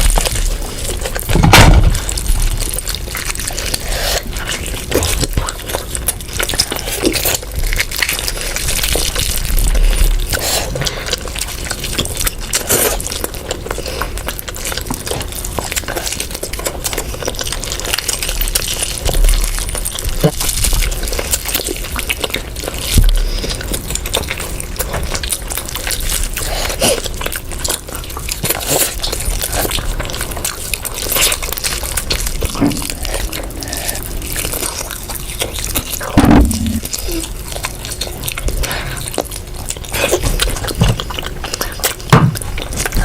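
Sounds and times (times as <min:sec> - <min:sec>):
wet eating and chewing: 0:00.0 - 0:43.0.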